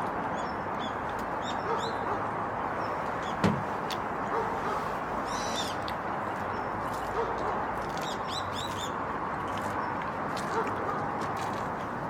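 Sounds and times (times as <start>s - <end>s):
small birds chirping: 0.2s - 7.2s, 7.8s - 10.7s.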